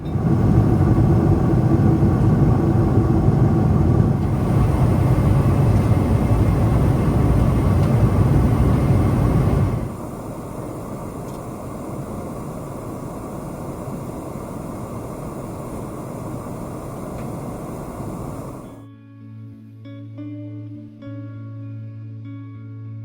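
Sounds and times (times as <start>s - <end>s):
airliner cabin engine rumble: 0.0s - 18.8s
faint steady hum: 0.0s - 18.9s.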